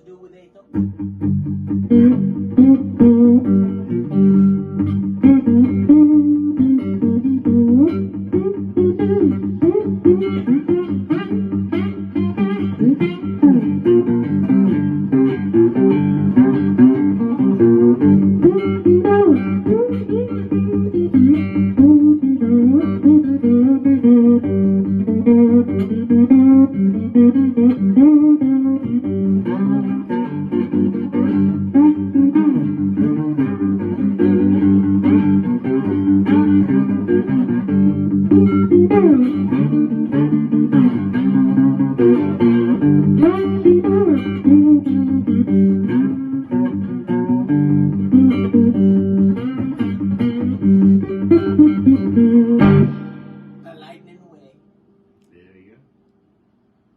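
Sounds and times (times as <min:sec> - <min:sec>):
guitar drone with bending melody: 0:00.7 - 0:53.7.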